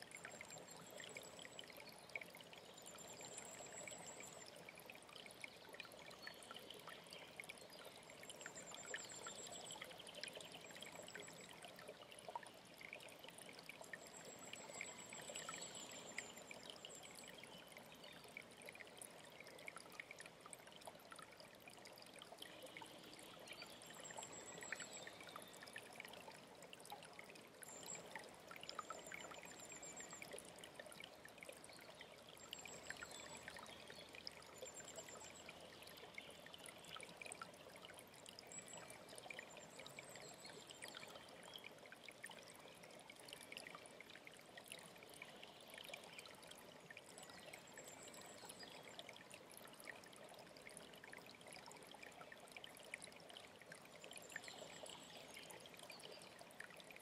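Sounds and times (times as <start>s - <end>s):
stream trickling and splashing: 0.0s - 57.0s.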